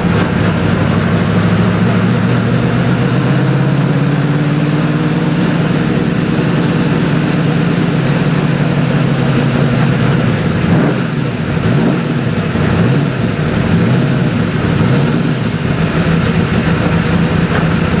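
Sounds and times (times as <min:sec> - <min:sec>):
race car engine at low revs: 0:00.0 - 0:18.0.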